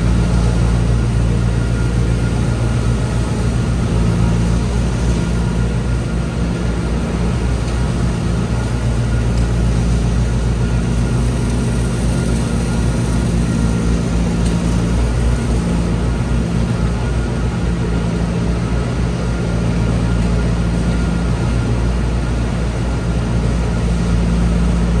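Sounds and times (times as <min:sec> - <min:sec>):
straw blower rushing noise: 0:00.0 - 0:25.0
tractor engine running: 0:00.0 - 0:25.0.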